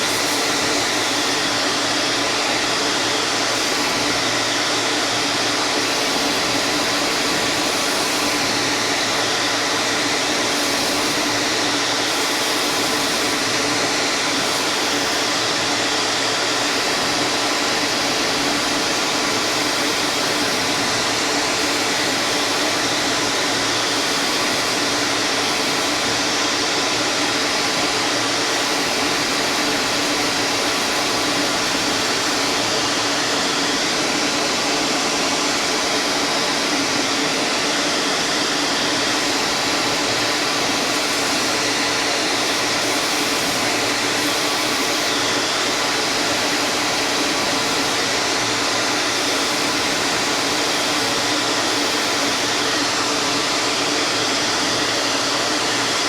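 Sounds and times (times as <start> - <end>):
electric machine whirring: 0.0 - 56.0.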